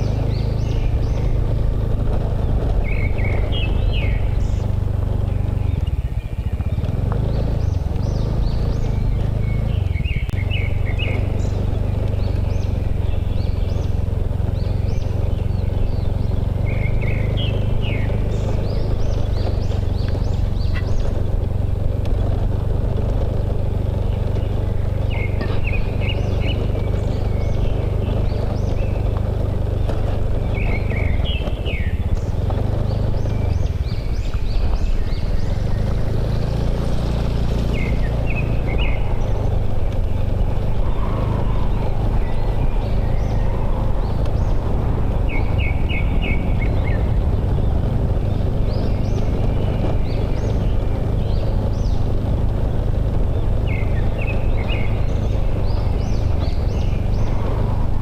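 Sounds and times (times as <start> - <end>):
bird chirps: 0.0 - 22.4, 23.0 - 58.0
small motorbike engine running: 0.0 - 58.0
wind and road noise: 0.0 - 58.0.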